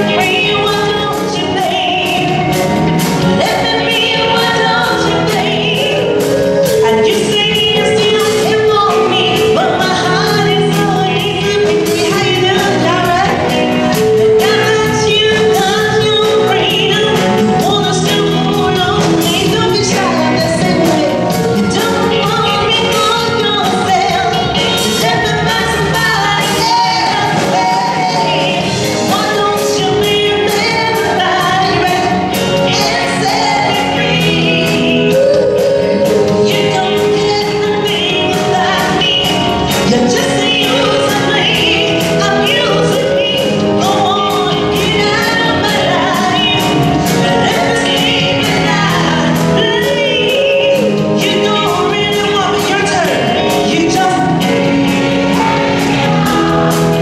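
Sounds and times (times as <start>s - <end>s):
live band playing: 0.0s - 57.0s
women singing live: 0.0s - 57.0s.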